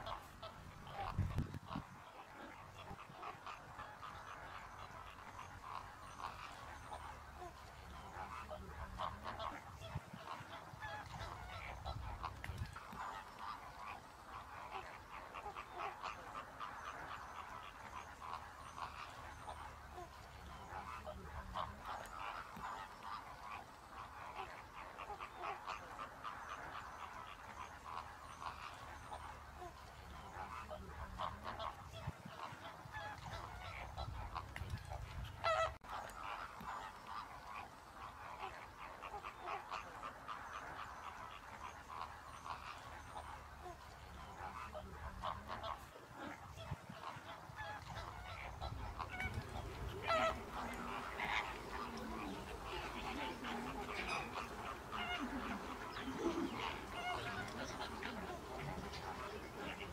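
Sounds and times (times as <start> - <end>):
flock of water birds calling: 0.0 - 59.9.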